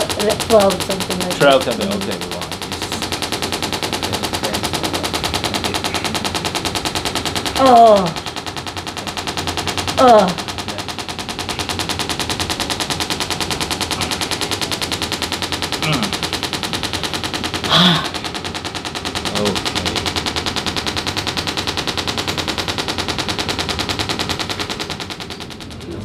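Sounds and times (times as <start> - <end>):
massage gun hammering: 0.0 - 25.9.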